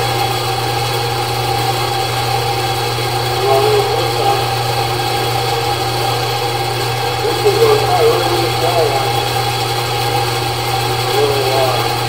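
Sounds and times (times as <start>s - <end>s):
drain machine motor hum: 0.9s - 12.0s.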